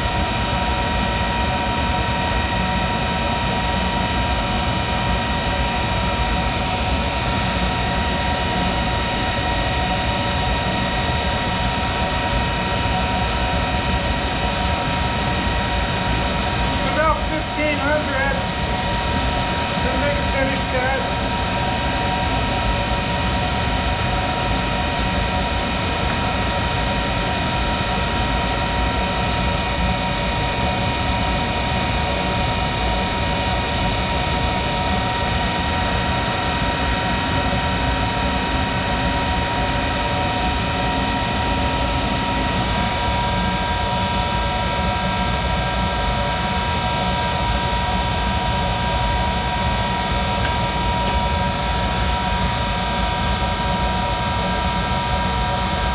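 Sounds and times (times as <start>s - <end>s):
lathe machine whine: 0.0s - 55.9s.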